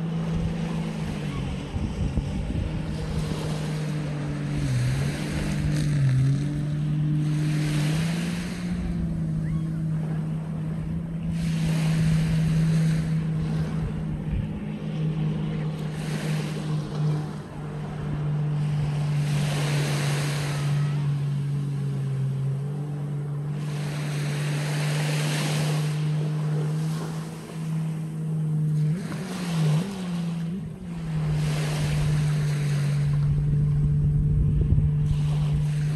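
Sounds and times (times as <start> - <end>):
low engine hum: 0.0 - 35.9
small waves washing on beach: 0.0 - 35.9.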